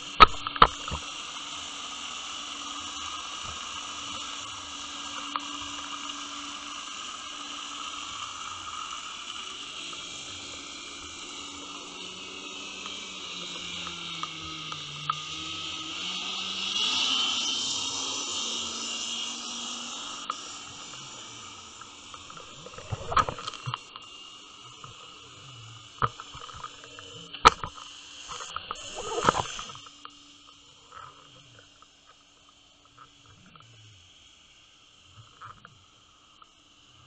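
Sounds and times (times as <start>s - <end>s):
underwater water hiss: 0.0s - 37.0s.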